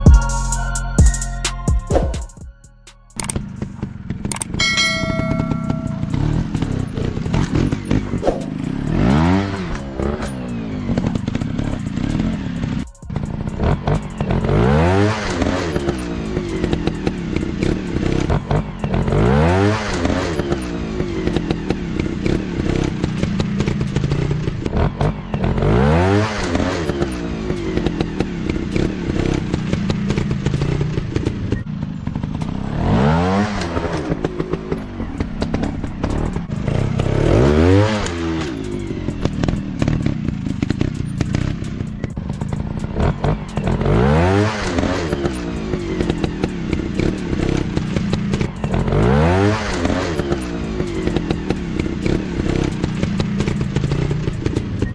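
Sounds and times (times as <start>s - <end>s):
dirt motorcycle engines revving: 3.2s - 54.9s.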